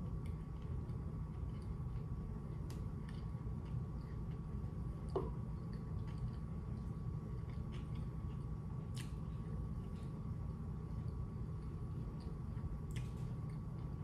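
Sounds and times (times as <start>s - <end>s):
chewing with mouth clicks: 0.0s - 14.0s
steady low hum: 0.0s - 14.0s.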